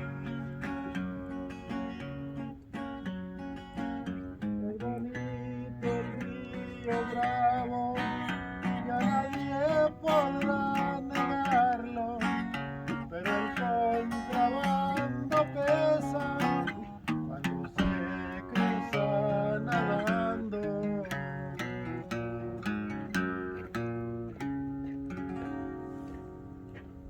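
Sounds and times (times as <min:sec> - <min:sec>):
song with acoustic guitar: 0:00.0 - 0:27.0.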